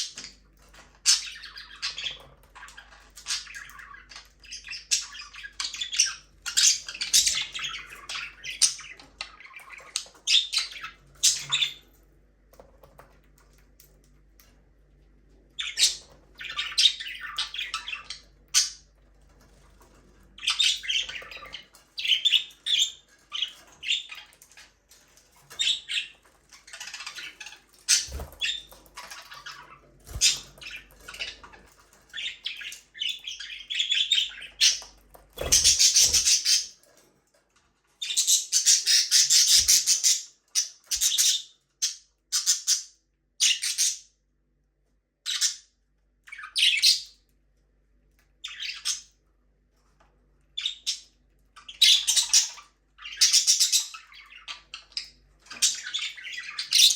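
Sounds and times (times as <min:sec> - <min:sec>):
budgerigars chirping and squawking: 0:00.0 - 0:12.0, 0:15.4 - 0:37.0, 0:38.0 - 0:44.1, 0:45.3 - 0:47.2, 0:48.2 - 0:49.2, 0:50.4 - 0:56.9.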